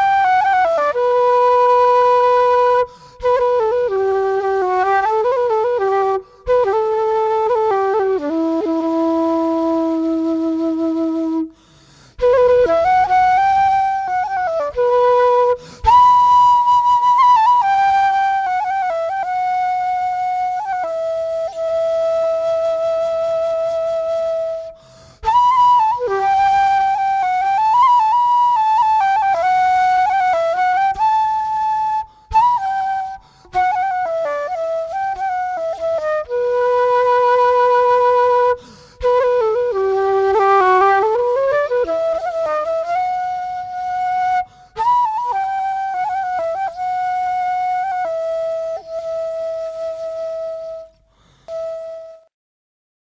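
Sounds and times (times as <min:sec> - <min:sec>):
slow solo flute melody: 0:00.0 - 0:52.3.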